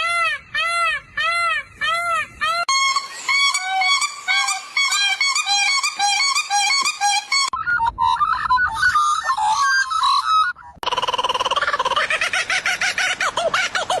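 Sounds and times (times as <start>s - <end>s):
animal chirping calls: 0.0s - 14.0s
rapidly pulsing animal call: 0.0s - 14.0s.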